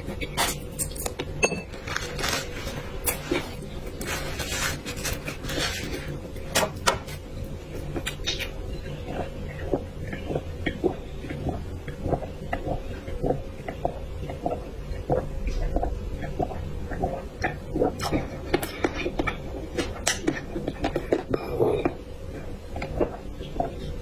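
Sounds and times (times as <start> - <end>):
person chewing: 0.0 - 23.8.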